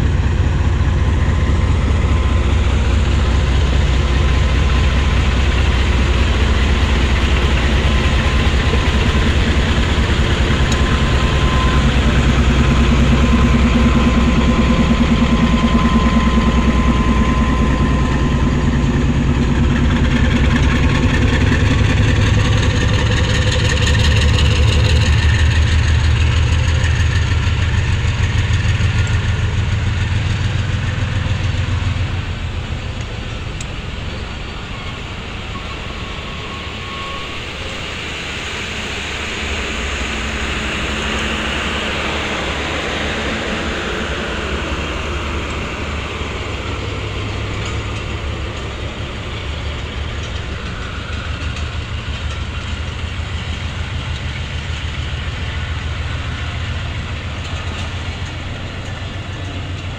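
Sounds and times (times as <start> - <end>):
diesel locomotive engine chugging: 0.0 - 59.9
train wheels rattling on rails: 0.0 - 59.9.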